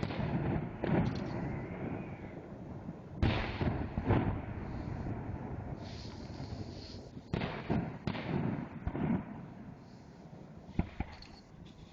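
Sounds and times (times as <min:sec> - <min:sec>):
fireworks bangs: 0:00.0 - 0:09.8, 0:10.7 - 0:11.6.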